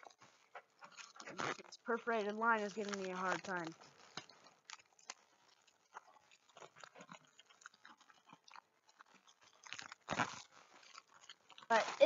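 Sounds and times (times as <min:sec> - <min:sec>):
plastic mailer crinkling and tearing: 0:01.0 - 0:12.0.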